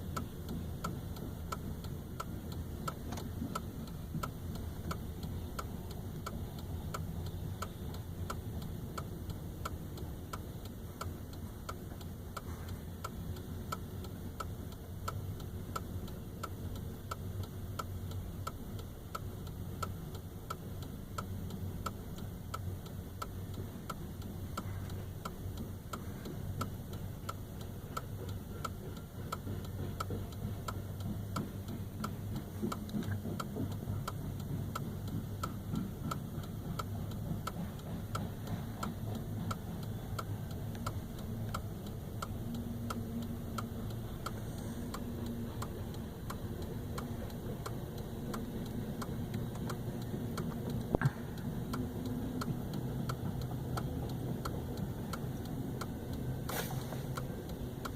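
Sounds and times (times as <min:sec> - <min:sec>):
short even ticks: 0:00.0 - 0:57.9.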